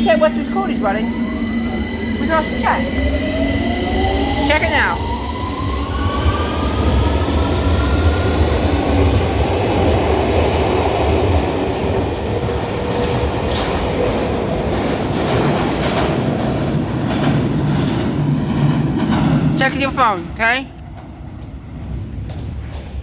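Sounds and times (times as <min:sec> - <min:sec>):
train rumbling: 0:00.0 - 0:23.0.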